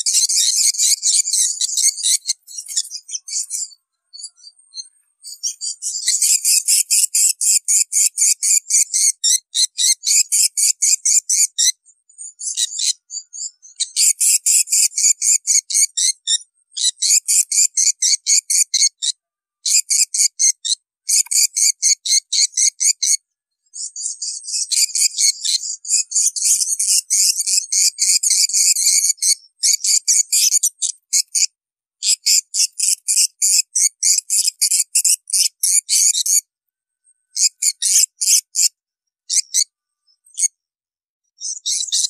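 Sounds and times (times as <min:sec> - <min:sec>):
bird twittering chirps: 0:00.0 - 0:36.5, 0:37.3 - 0:38.7, 0:39.3 - 0:40.6, 0:41.4 - 0:42.0.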